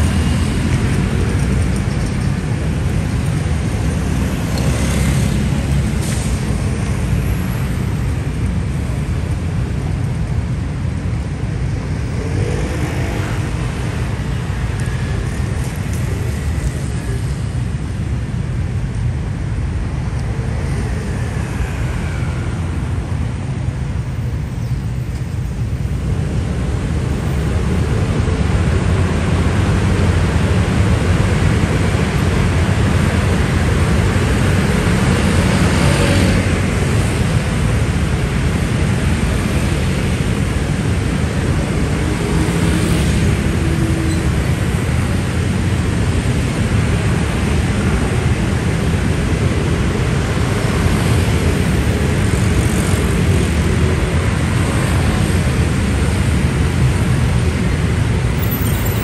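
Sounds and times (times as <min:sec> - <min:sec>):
scooter and motorcycle engines: 0:00.0 - 0:18.4, 0:26.2 - 0:59.0.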